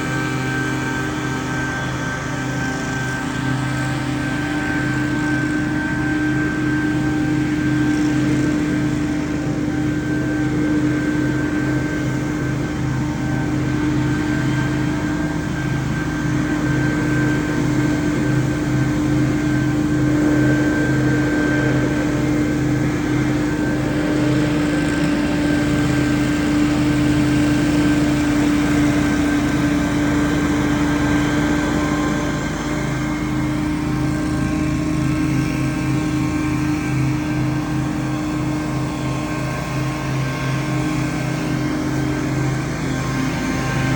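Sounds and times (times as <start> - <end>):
leaf blowers running: 0.0 - 43.9.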